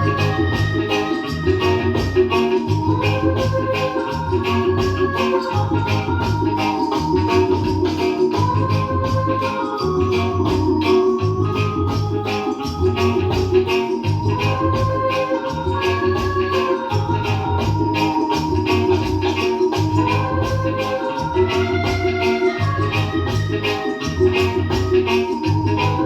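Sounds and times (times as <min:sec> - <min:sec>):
instrumental reggae music: 0:00.0 - 0:26.0
organ chords and melody: 0:00.0 - 0:26.0
pulsing bass line: 0:00.0 - 0:26.0.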